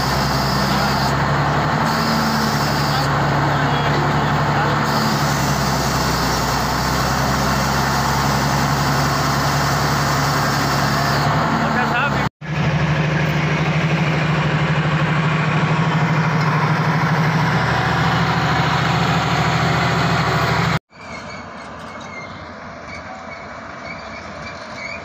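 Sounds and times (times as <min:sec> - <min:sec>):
heavy diesel engine running: 0:00.0 - 0:21.3
construction site background noise: 0:00.0 - 0:25.0.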